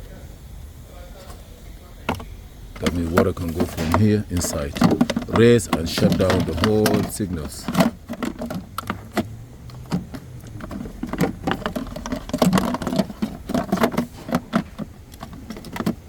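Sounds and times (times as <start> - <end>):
car interior parts clicking: 2.0 - 16.0.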